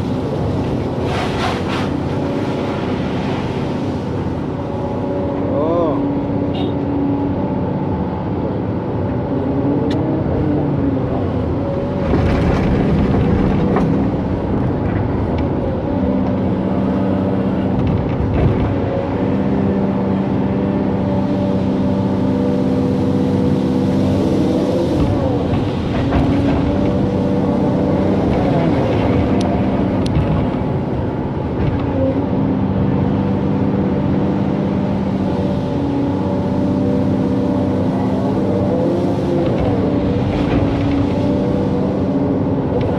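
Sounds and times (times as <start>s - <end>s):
excavator diesel engine under load: 0.0s - 42.9s.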